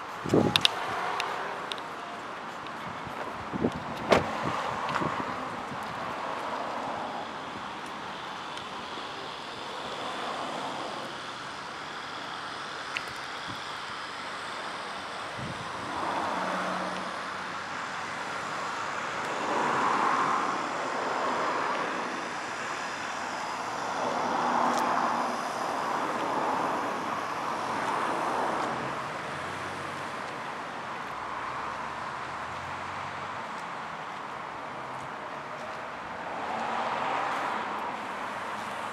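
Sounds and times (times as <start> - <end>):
steady traffic hum: 0.0 - 38.9
vehicles passing: 0.0 - 38.9.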